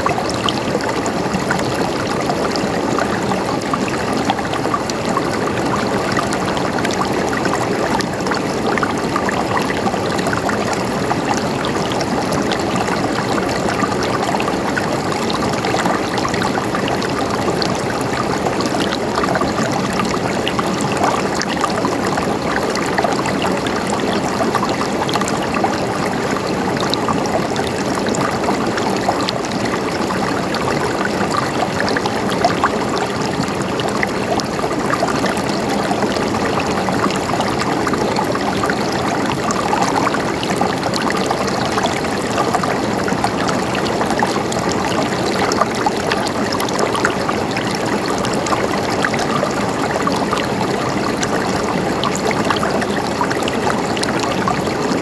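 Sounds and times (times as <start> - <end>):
water flowing and gurgling: 0.0 - 55.0.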